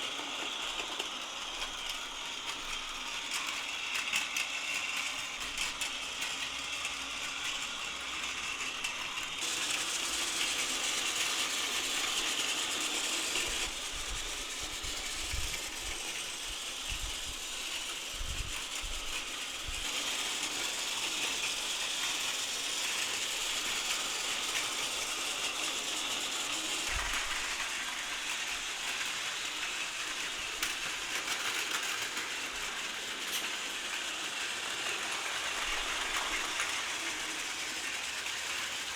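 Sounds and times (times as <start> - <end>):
toy train motor whirring: 0.0 - 38.9.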